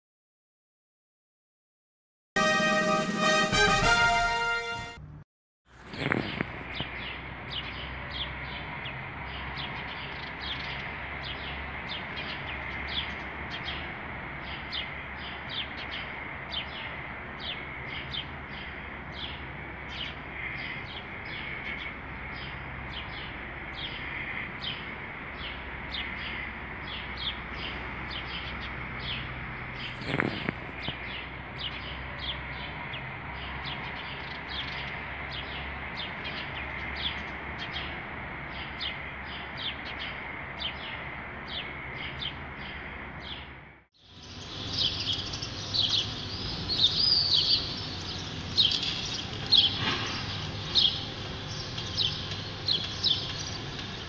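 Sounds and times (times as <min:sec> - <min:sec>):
small birds chirping: 0:05.8 - 0:54.0.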